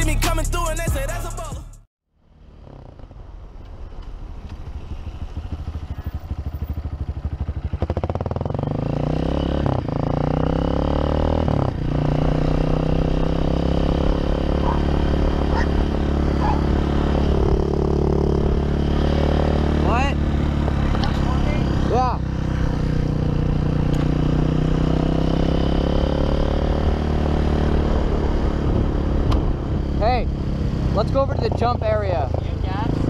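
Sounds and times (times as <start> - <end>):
dirt bike engine running: 4.4 - 33.0.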